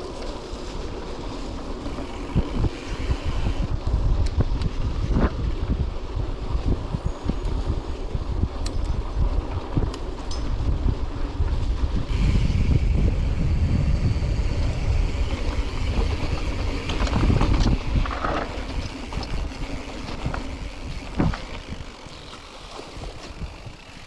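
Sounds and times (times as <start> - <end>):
bike knocking and rattling: 0.0 - 24.0
bike tyre noise: 0.0 - 24.0
wind on microphone: 1.8 - 24.0.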